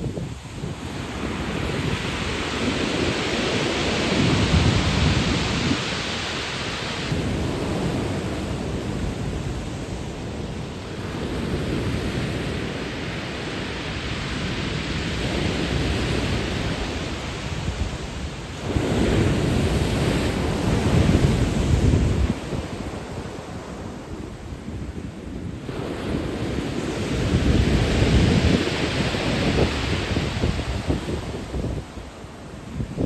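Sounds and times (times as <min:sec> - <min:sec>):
waves breaking on pebble beach: 0:00.0 - 0:24.4, 0:25.4 - 0:33.0.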